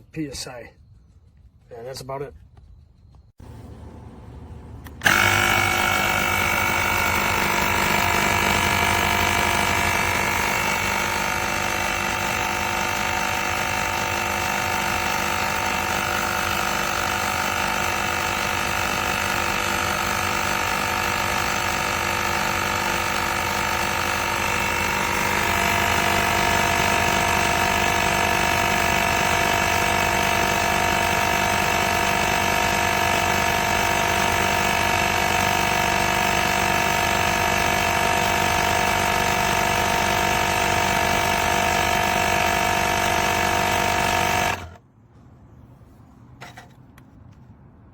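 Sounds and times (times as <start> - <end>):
electric air compressor droning: 3.4 - 44.8.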